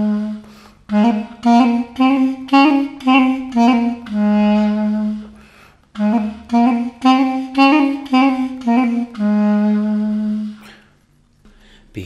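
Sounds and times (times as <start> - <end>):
wooden reed pipe playing: 0.0 - 10.8.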